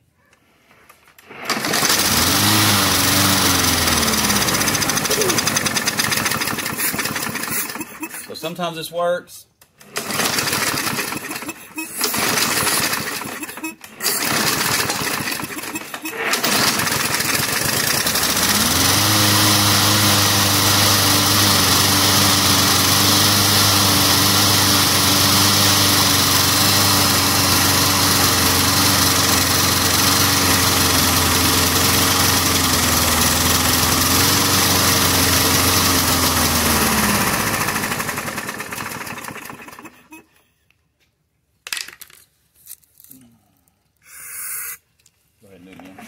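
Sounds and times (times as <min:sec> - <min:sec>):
lawn mower engine running: 0:01.2 - 0:08.4, 0:09.8 - 0:40.1.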